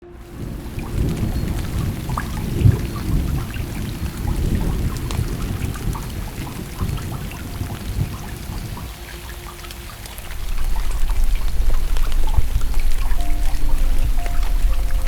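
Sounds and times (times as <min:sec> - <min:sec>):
heavy low rumble: 0:00.0 - 0:15.0
rain pattering on car roof: 0:00.0 - 0:15.0.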